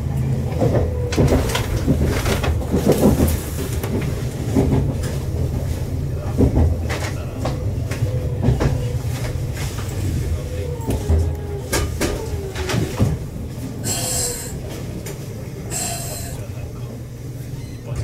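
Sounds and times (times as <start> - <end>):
train equipment hum: 0.0 - 18.0.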